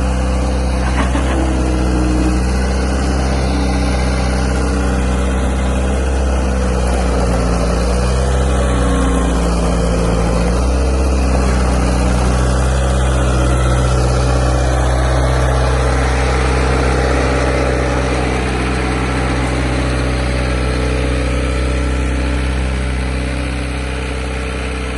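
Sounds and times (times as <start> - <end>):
skid steer engine running: 0.0 - 24.9.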